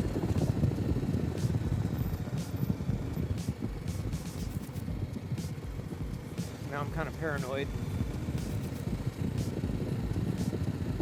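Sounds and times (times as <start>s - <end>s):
motorcycle engine: 0.0s - 11.0s
wind rumble on microphone: 0.0s - 11.0s.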